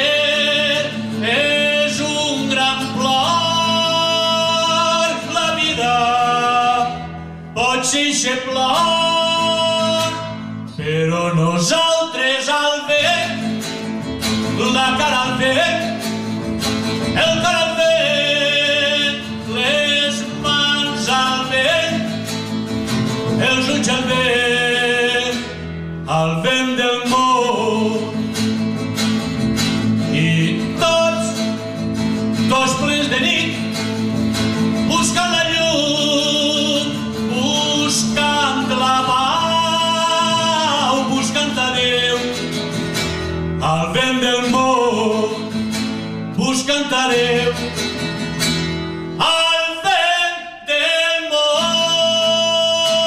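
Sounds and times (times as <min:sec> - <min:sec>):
man singing: 0:00.0 - 0:28.8, 0:29.7 - 0:48.3, 0:49.1 - 0:53.0
classical guitars: 0:00.0 - 0:53.0.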